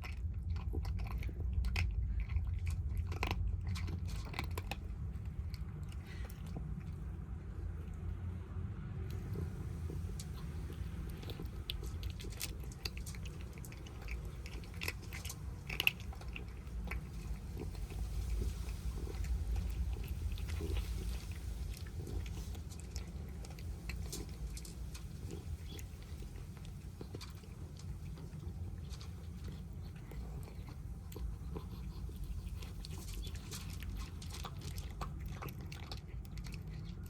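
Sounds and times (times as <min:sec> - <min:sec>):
kittens chewing and biting: 0:00.0 - 0:37.0
low steady rumble: 0:00.0 - 0:37.0.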